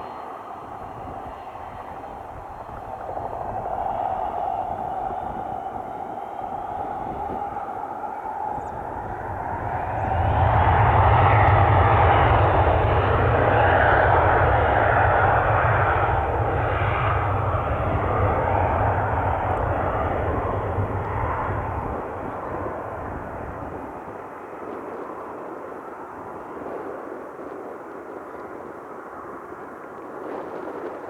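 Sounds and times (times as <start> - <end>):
airplane engine roar: 0.0 - 26.6.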